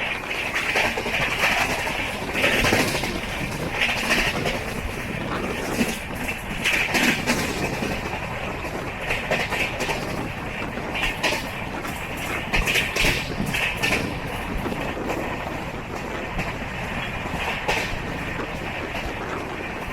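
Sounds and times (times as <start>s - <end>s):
train coach rumble and rattle: 0.0s - 19.9s
wheels and couplings clacking: 0.0s - 19.9s.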